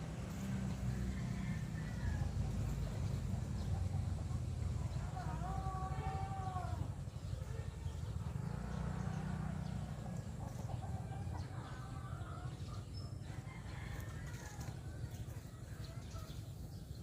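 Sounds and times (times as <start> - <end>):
chickens clucking: 2.2 - 16.9.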